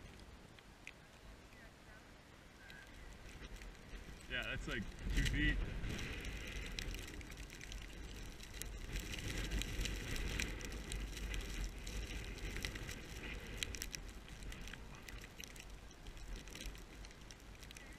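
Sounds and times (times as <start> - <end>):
snow crunching: 2.8 - 17.9
wind buffeting microphone: 2.9 - 17.9.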